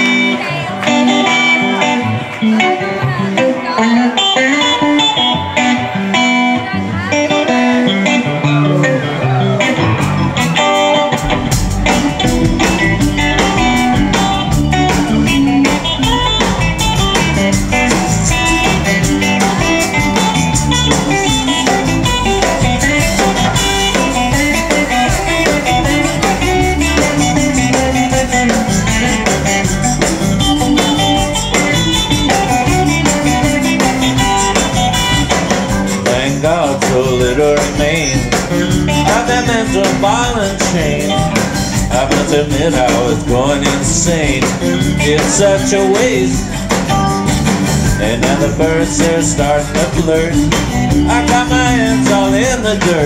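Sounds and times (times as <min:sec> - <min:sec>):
bass guitar: 0:00.0 - 0:53.0
electric guitar: 0:00.0 - 0:53.0
drum kit: 0:04.6 - 0:53.0.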